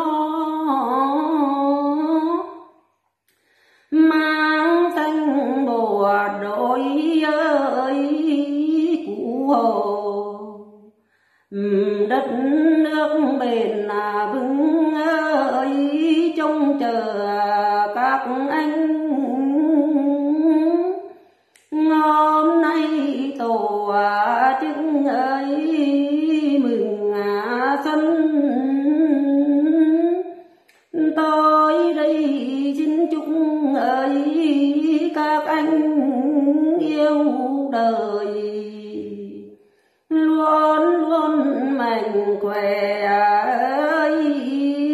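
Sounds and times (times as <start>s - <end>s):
woman singing unaccompanied folk song: 0.0s - 2.6s, 3.9s - 10.9s, 11.5s - 39.5s, 40.1s - 44.9s.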